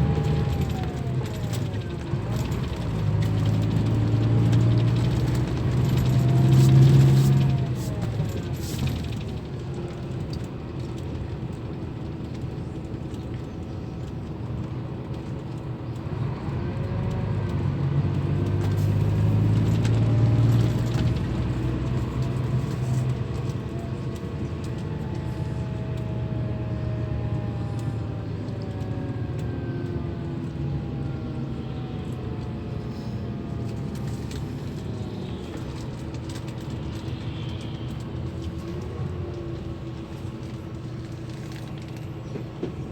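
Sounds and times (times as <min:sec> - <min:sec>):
bus engine running: 0:00.0 - 0:42.9.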